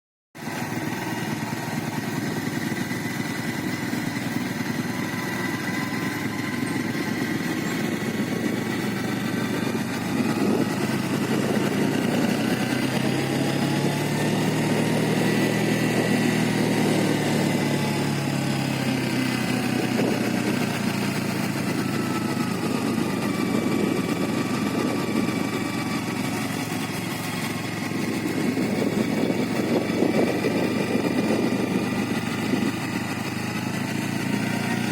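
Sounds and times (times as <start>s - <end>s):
engine whine: 0.4s - 34.9s
vehicle engine running: 0.4s - 34.9s.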